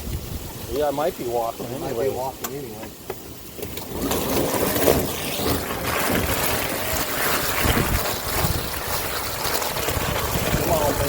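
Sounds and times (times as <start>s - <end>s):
wheels churning through wet mud: 0.0s - 11.0s.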